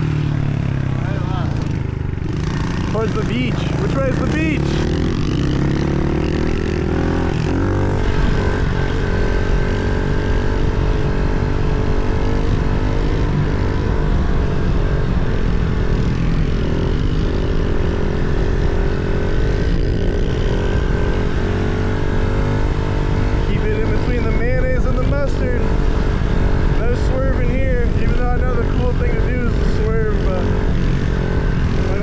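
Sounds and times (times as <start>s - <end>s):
pit bike engine under throttle: 0.0s - 32.0s.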